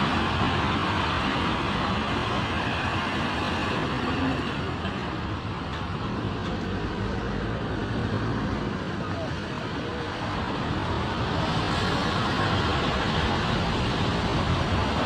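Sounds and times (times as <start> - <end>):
road traffic hiss and rumble: 0.0 - 15.0.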